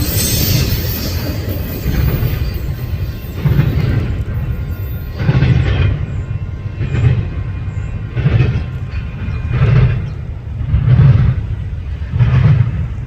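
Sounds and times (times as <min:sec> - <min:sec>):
freight train cars rolling: 0:00.0 - 0:13.0
rhythmic clatter of wheels: 0:00.0 - 0:13.0.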